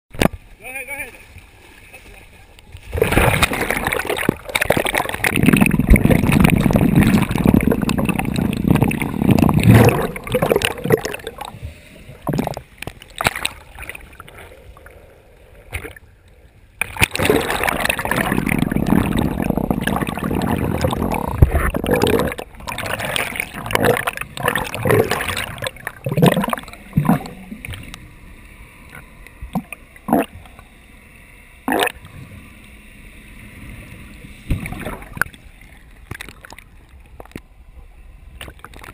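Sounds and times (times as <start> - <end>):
muffled underwater water rushing: 0.1 - 38.9.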